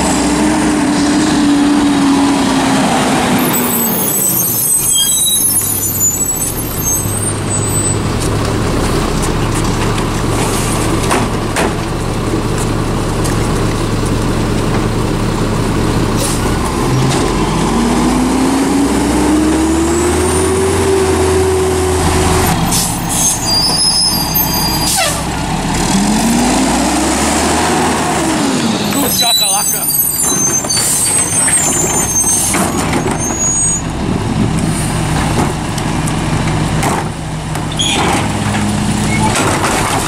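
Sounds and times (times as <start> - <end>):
garbage truck diesel engine: 0.0 - 40.0.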